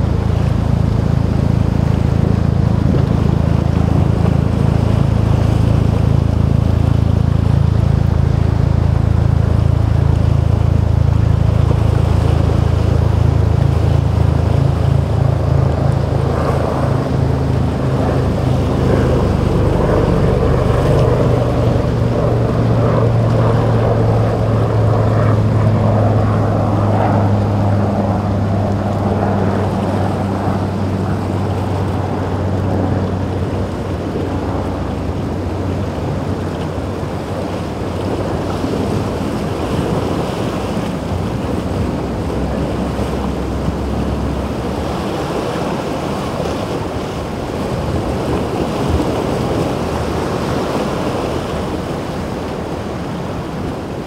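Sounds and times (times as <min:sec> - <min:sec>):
hull splashing through waves: 0:00.0 - 0:54.0
outboard motors droning: 0:00.0 - 0:54.0.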